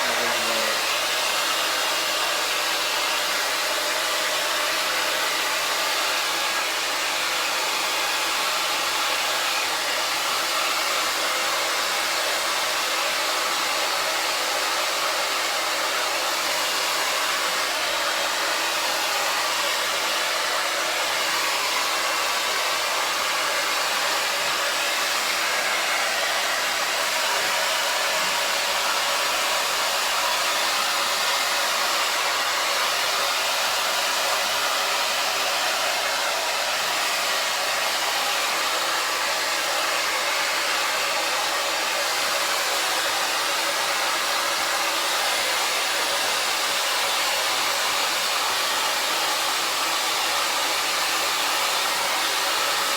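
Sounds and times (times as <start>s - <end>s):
hair dryer blowing: 0.0s - 52.9s.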